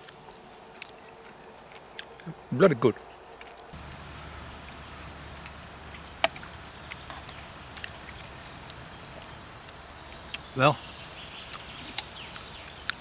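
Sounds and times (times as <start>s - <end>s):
faint outdoor hiss: 0.0s - 13.0s
small bird warbling song: 1.0s - 13.0s.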